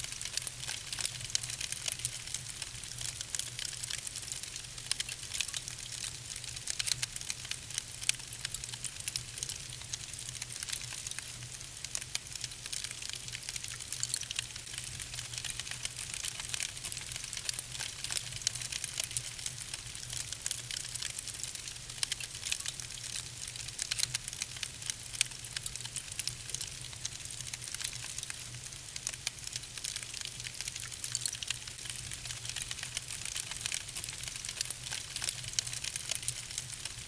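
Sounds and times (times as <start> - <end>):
logs crackling and popping: 0.1 - 37.0.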